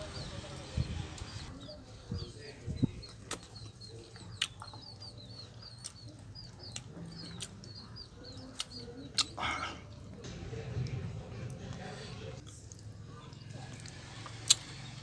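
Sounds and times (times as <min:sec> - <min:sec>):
small birds chirping: 0:00.0 - 0:10.3, 0:12.4 - 0:15.0.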